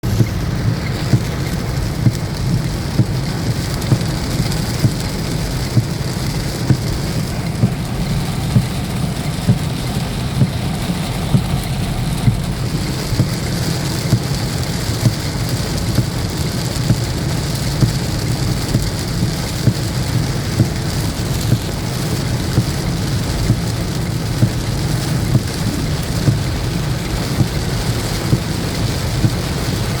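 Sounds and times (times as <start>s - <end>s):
heavy rain drumming on a surface: 0.0s - 30.0s.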